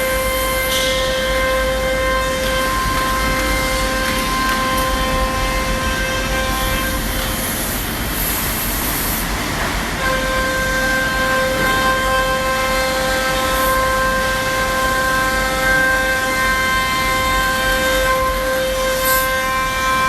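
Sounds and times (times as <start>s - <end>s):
bit cutting plywood: 0.0s - 20.0s
router spindle whine: 0.0s - 20.0s.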